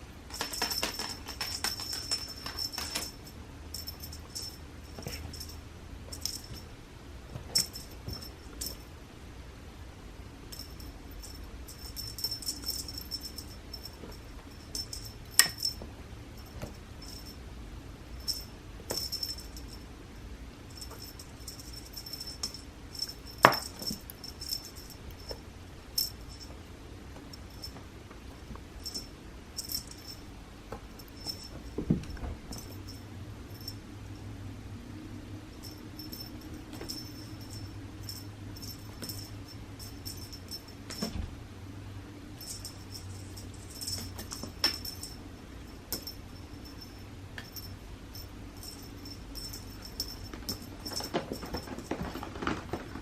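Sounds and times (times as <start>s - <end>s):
cat toy jingling and rattling: 0.3s - 6.7s, 7.4s - 8.9s, 10.5s - 17.4s, 18.1s - 19.8s, 20.7s - 26.6s, 27.2s - 27.8s, 28.8s - 30.3s, 30.9s - 33.9s, 35.5s - 41.2s, 42.4s - 53.0s.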